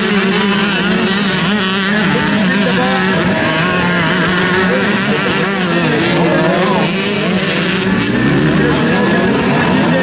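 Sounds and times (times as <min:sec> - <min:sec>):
motocross bikes racing: 0:00.0 - 0:10.0.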